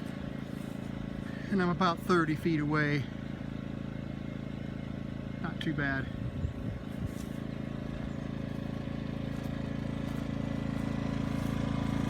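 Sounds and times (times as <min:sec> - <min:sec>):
generator engine hum: 0:00.0 - 0:12.0.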